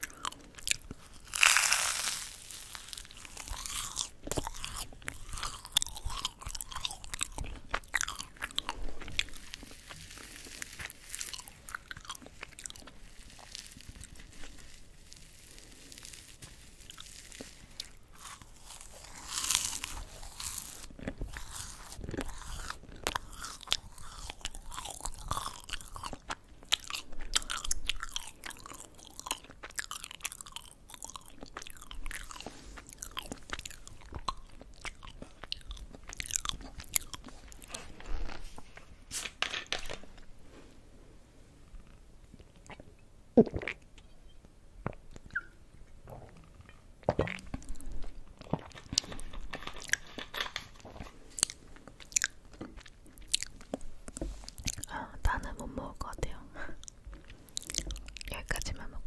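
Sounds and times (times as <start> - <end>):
crunching rice crackers: 0.0 - 40.3, 47.4 - 55.6, 56.8 - 58.6.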